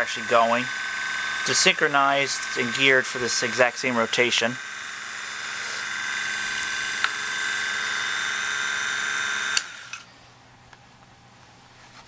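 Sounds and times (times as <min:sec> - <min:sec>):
film projector whine: 0:00.0 - 0:10.1.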